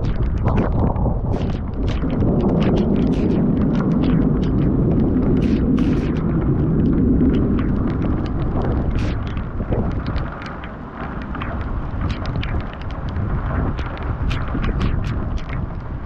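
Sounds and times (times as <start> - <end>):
thunder rumbling with crackles: 0.0 - 16.0.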